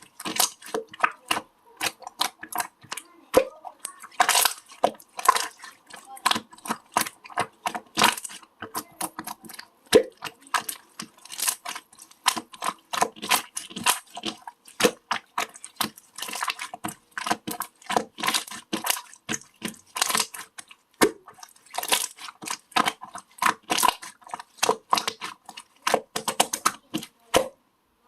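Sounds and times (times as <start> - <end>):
slime squished by hand: 0.0 - 27.6.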